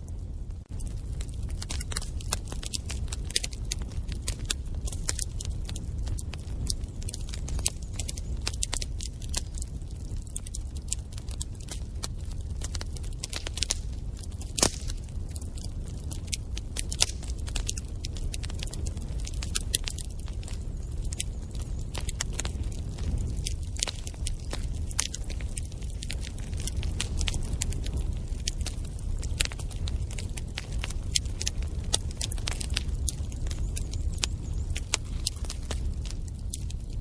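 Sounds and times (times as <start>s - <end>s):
low rumble of flames: 0.0s - 37.0s
wood fire crackling: 0.0s - 37.0s.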